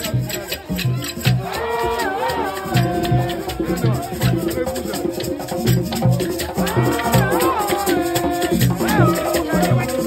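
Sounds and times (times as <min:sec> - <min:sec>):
drum beat: 0:00.0 - 0:10.0
shakers rattling: 0:00.0 - 0:10.0.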